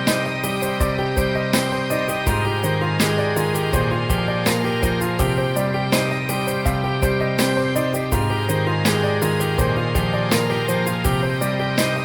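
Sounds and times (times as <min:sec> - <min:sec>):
soft keyboard melody with beat: 0:00.0 - 0:12.0.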